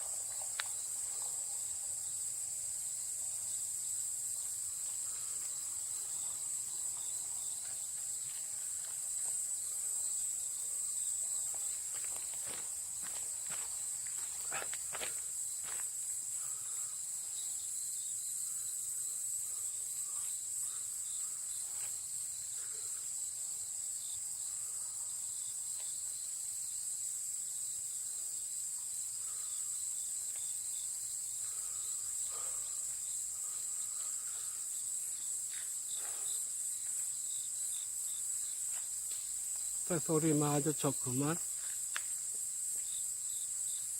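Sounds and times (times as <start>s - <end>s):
insects shrilling: 0.0s - 43.9s.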